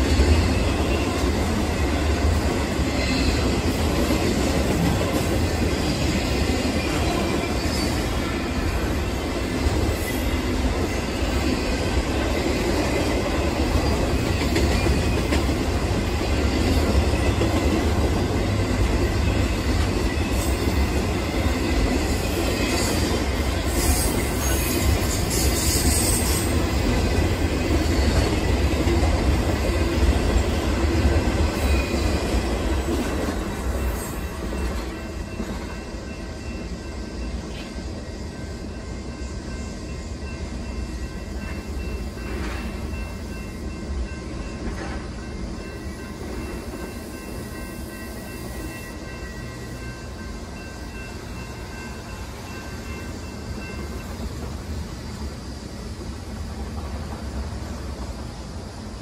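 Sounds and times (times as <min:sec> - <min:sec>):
train wheels rumbling and clacking: 0:00.0 - 0:59.0.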